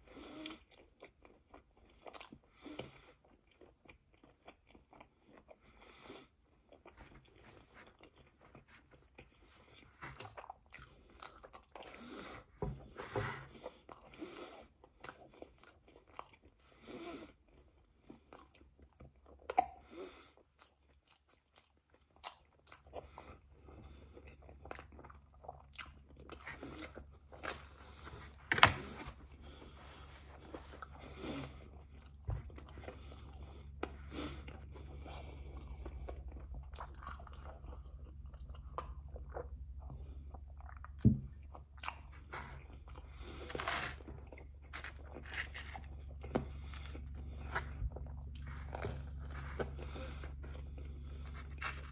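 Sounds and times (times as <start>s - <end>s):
person chewing pizza: 0.0s - 51.9s.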